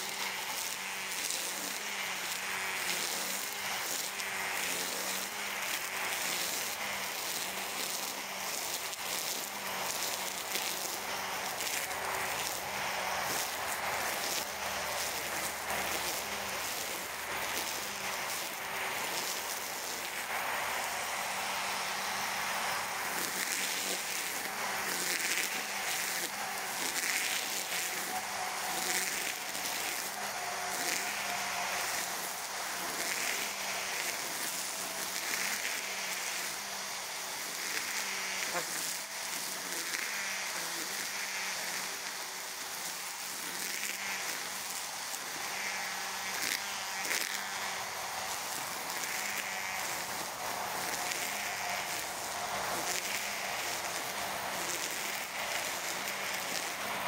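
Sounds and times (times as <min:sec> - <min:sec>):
brush cutter cutting grass: 0:00.0 - 0:57.0
electric motor whining: 0:00.0 - 0:57.0.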